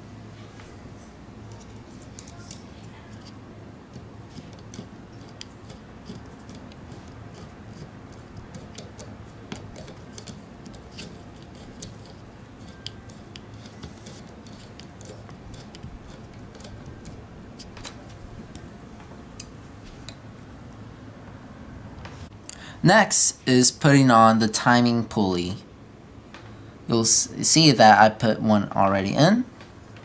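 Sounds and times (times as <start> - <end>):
low background noise: 0.0 - 30.0.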